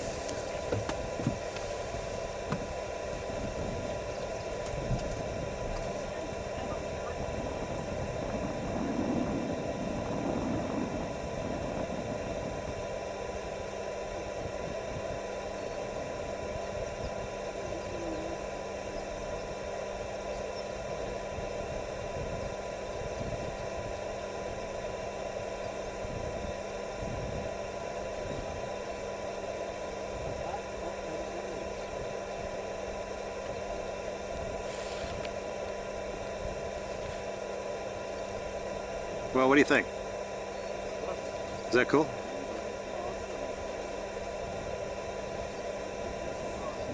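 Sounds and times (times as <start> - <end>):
constant hiss: 0.0 - 46.9
vehicle running hum: 0.0 - 46.9.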